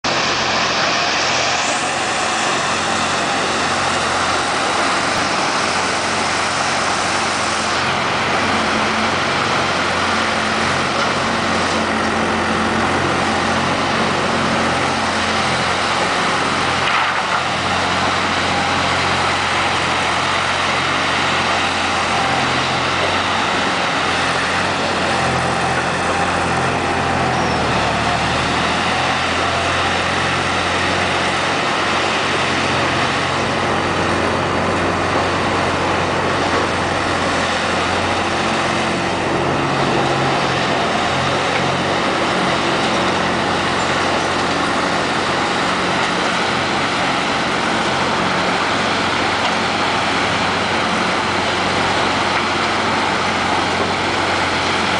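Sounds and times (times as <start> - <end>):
log loader engine running: 0.0 - 54.9.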